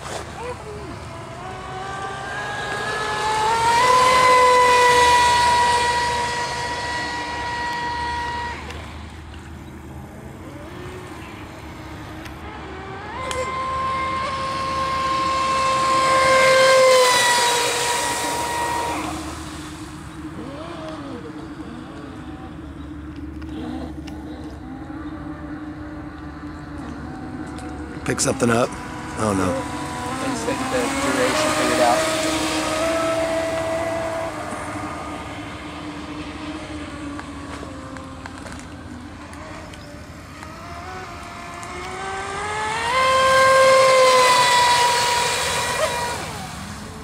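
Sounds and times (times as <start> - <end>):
electric boat motor whining: 0.0 - 47.0.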